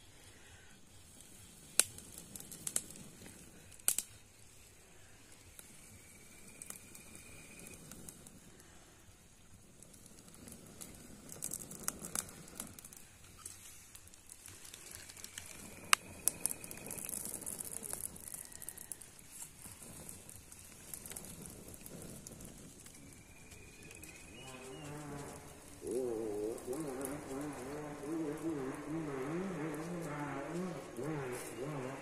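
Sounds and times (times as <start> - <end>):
small fire crackling and popping: 0.0 - 32.0.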